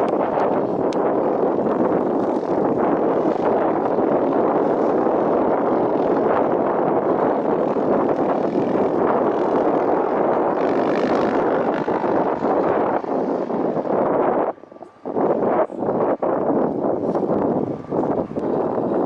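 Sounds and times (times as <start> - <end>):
jet airliner passing: 0.0 - 19.0.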